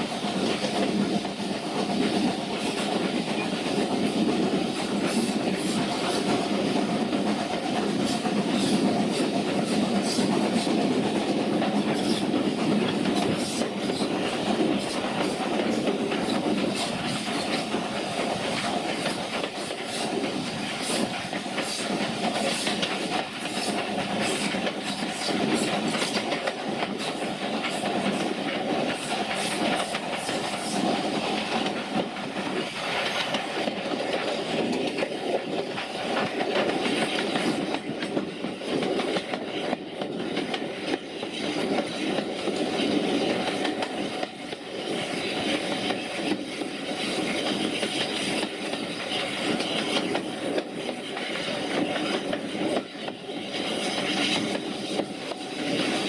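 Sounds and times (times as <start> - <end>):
train rolling rumble: 0.0 - 56.0
wheels clicking over rail joints: 0.4 - 56.0.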